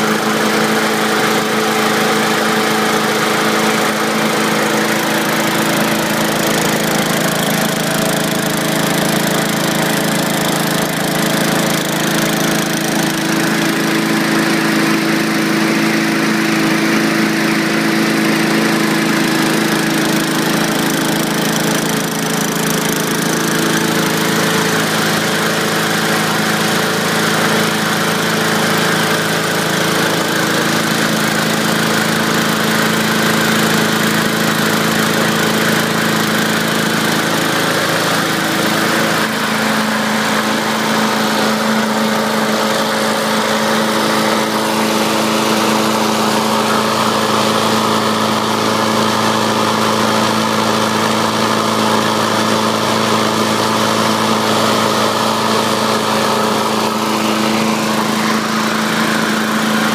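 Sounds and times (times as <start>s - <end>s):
lawn mower engine running: 0.0s - 59.9s
mower vibrating: 0.0s - 59.9s.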